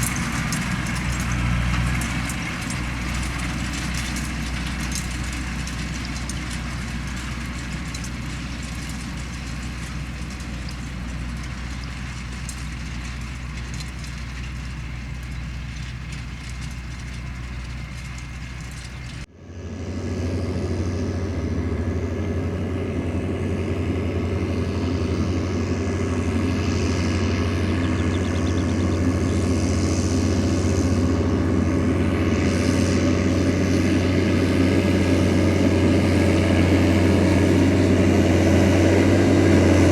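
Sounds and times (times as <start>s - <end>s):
diesel tractor engines running: 0.0s - 39.9s
engine with higher hum: 0.0s - 39.9s.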